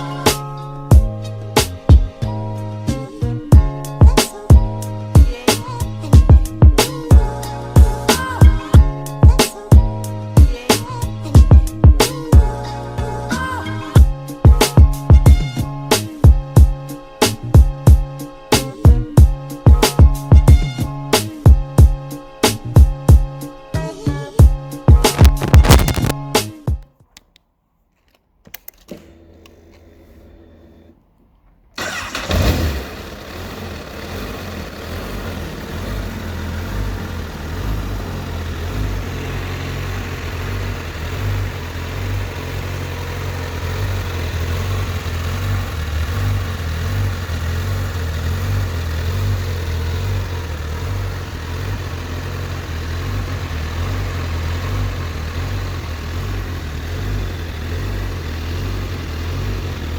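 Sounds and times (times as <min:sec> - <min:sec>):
motorcycle engine starting and idling: 0:00.0 - 0:26.2, 0:28.4 - 0:59.9.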